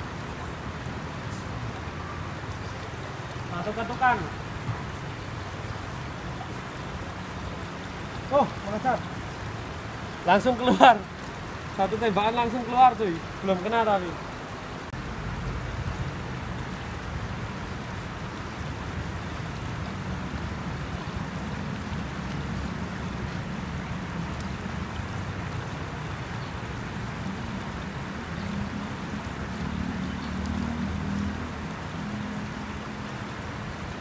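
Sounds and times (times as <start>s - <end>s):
water running over rocks: 0.0s - 34.0s.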